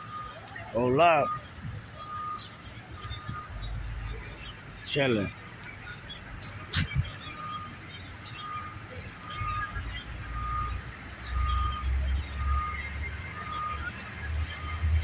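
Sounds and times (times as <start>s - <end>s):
reversing alarm beeping: 0.0s - 4.4s, 6.8s - 15.0s.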